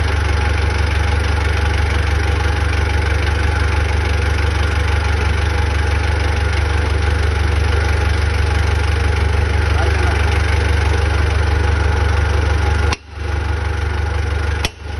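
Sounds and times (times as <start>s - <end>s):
large engine idling: 0.0s - 14.9s.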